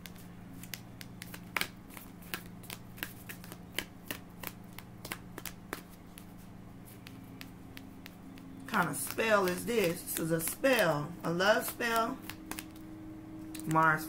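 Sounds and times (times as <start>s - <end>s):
cards being shuffled by hand: 0.0s - 12.9s.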